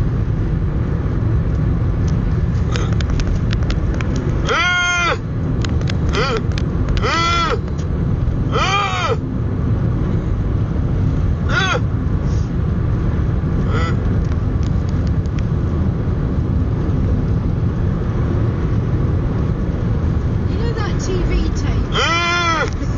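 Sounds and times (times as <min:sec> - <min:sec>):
car road noise inside cabin: 0:00.0 - 0:22.9.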